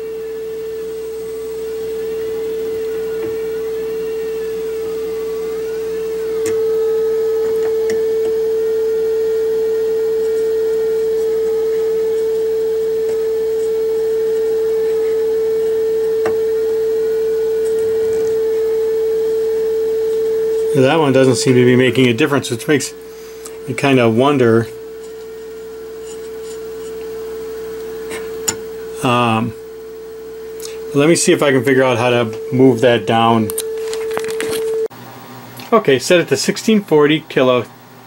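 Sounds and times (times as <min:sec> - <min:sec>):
faint wavering whistle: 0:00.0 - 0:34.9
steady test tone: 0:00.0 - 0:34.9.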